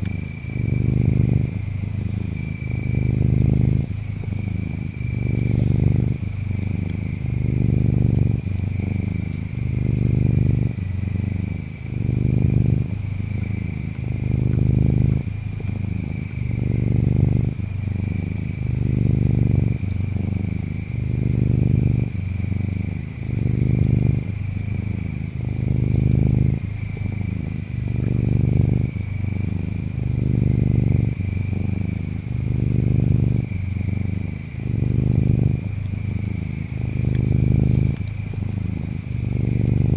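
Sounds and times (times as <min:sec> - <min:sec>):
cat purring: 0:00.0 - 0:39.9
insect trill: 0:00.0 - 0:39.9.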